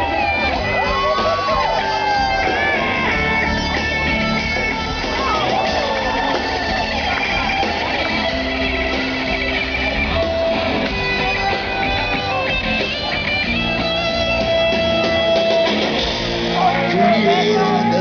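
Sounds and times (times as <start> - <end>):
hard rock electric guitar: 0.0 - 18.0.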